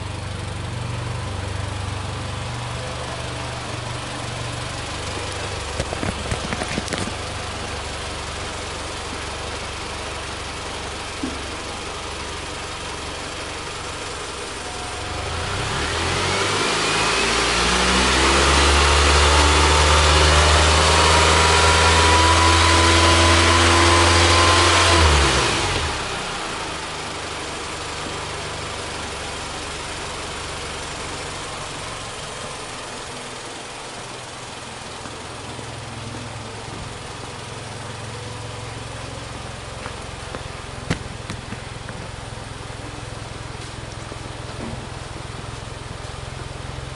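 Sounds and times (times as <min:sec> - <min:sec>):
engine idling and revving: 0:00.0 - 0:46.9.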